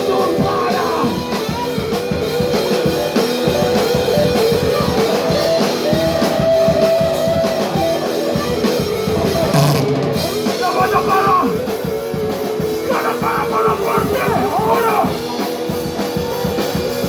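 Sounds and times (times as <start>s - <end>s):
distorted electric guitars: 0.0s - 17.0s
drum kit: 0.0s - 17.0s.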